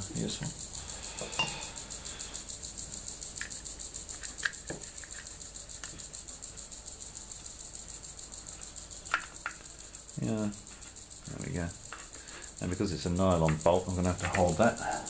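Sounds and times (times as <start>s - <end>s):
fast-pulsing high-pitched hiss: 0.0s - 15.0s.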